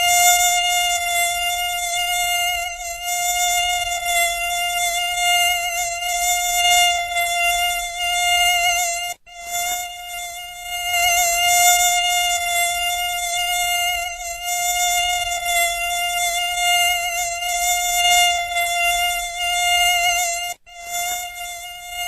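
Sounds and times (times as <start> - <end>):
mosquito whine: 0.0 - 22.0.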